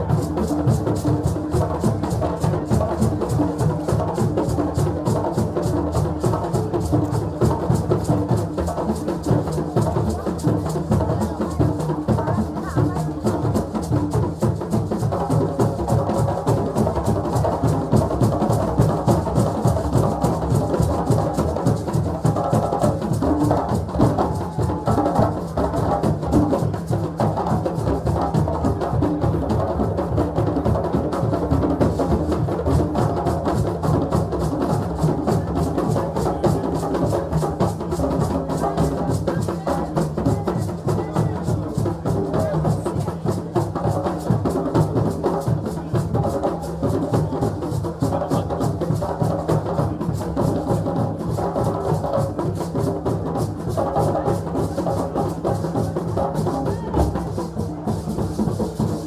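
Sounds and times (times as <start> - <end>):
fast rhythmic drumming: 0.0 - 59.0.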